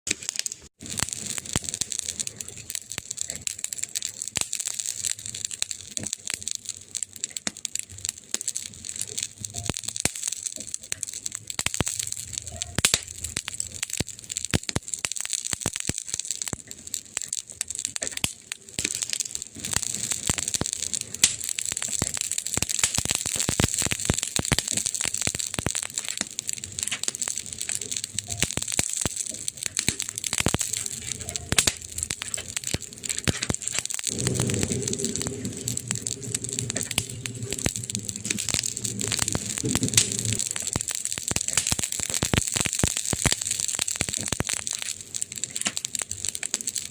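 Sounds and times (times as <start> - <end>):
wood fire crackling: 0.1 - 46.9.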